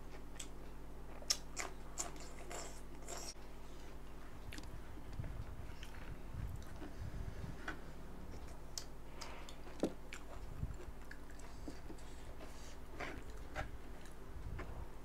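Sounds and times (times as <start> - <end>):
steady low hum: 0.0 - 15.0
person chewing food: 0.1 - 14.8.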